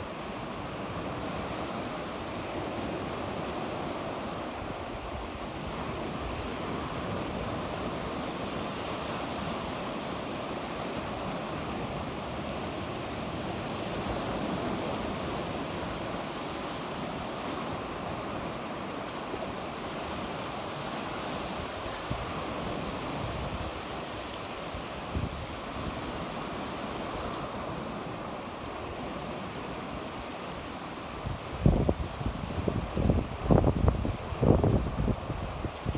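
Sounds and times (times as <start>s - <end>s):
sea waves breaking on shore: 0.0s - 35.9s.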